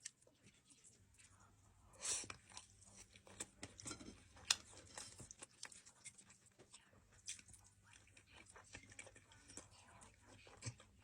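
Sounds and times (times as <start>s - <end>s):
chewing and smacking: 0.0s - 1.5s, 2.1s - 11.0s.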